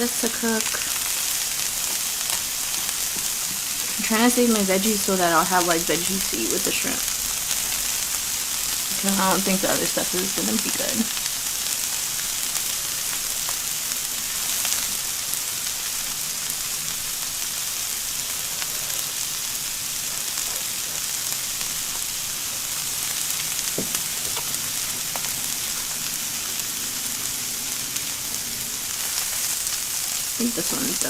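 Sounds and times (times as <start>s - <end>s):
shrimp sizzling in oil: 0.0s - 31.0s.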